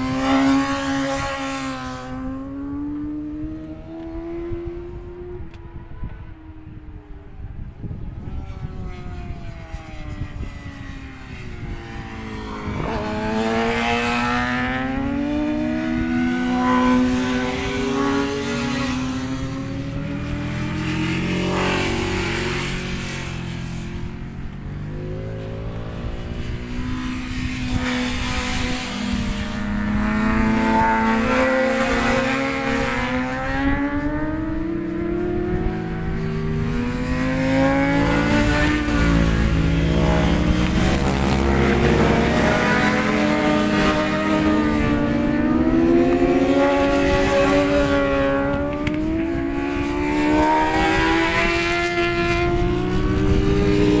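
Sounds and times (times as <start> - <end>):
racing motorcycles passing: 0.0 - 54.0
wind on microphone: 0.0 - 54.0.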